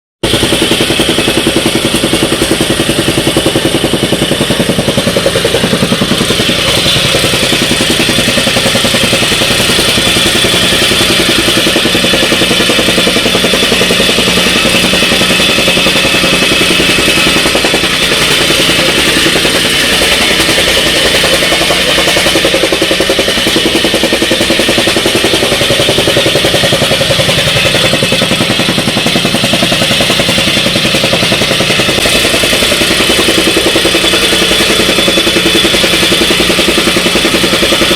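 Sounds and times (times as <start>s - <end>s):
rammer compactor pounding ground: 0.2s - 37.9s.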